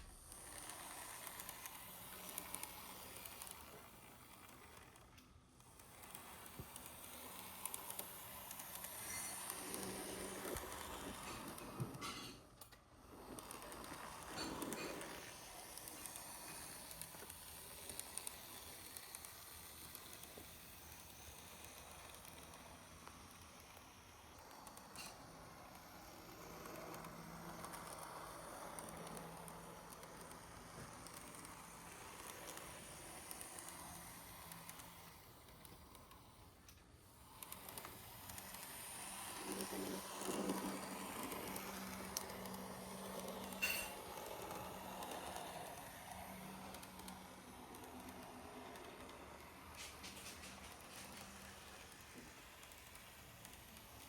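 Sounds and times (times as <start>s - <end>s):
faint whir of small motor: 0.0s - 54.0s
wheels crackling on rail: 0.0s - 54.0s.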